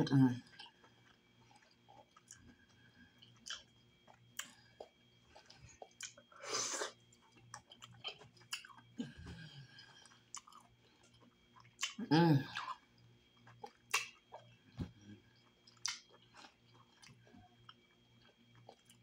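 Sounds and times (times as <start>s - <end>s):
close chewing mouth sounds: 0.4s - 19.0s.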